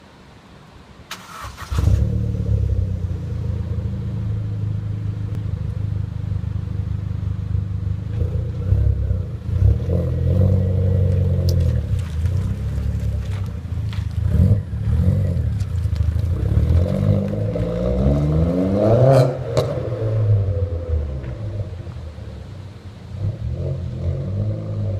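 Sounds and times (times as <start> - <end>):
car engine starting and revving: 1.1 - 24.9.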